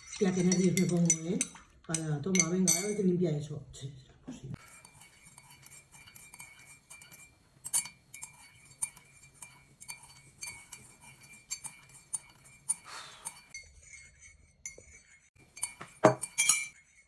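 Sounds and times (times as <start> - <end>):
spoon clinking in a glass: 0.0 - 3.0, 4.6 - 16.8.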